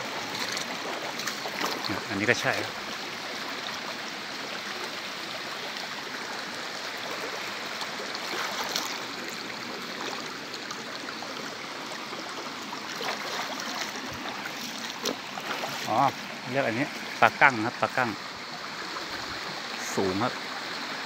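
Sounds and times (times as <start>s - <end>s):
stream babbling: 0.0s - 21.0s.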